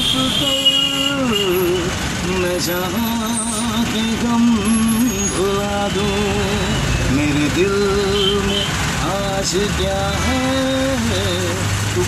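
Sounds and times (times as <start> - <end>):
bus engine rumble: 0.0 - 12.0
man singing slow melody: 0.0 - 12.0.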